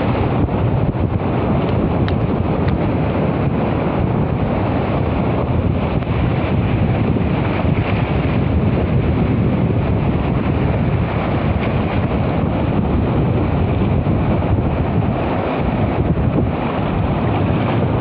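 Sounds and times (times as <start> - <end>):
shallow sea water washing: 0.0 - 18.0
wind buffeting microphone: 0.0 - 18.0.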